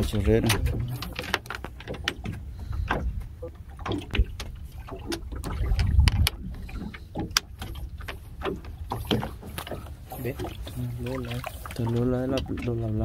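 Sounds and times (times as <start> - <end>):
knocks and clicks of line hauling: 0.0 - 13.0
low rumble of wind and water: 0.0 - 13.0.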